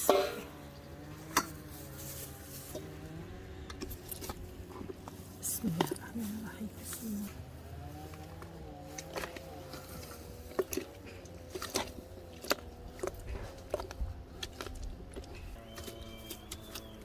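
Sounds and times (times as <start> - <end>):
wet squishing of grapes: 0.0 - 17.0.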